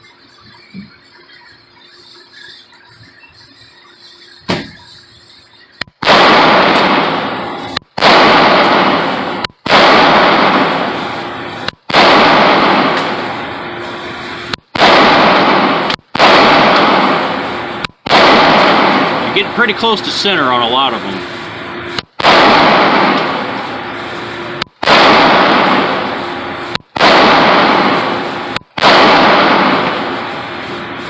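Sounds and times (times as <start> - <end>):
pistol shots echoing indoors: 4.5 - 4.9, 6.0 - 31.0.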